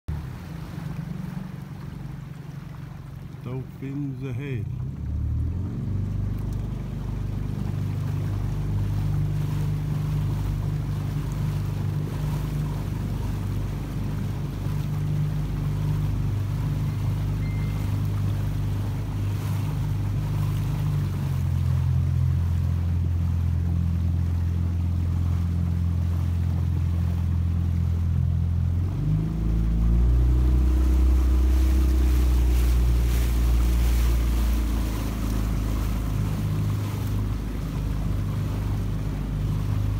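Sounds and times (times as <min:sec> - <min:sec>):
boat engine running: 0:00.1 - 0:39.9
water rushing along hull: 0:00.1 - 0:39.9.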